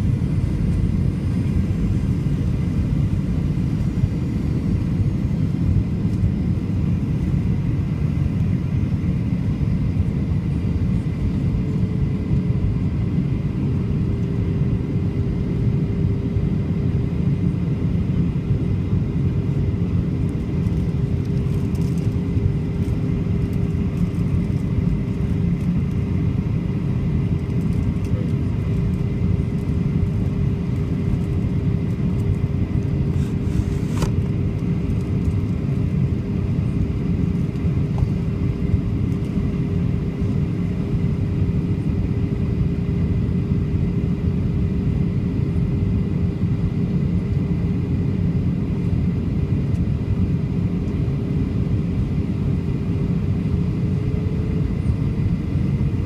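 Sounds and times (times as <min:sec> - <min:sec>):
airplane cabin roar: 0:00.0 - 0:56.0
steady hum: 0:00.0 - 0:56.0.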